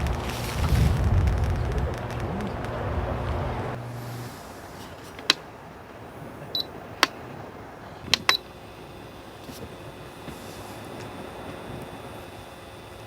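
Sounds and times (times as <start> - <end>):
sharp clicks: 0.0 - 3.8, 4.8 - 13.0.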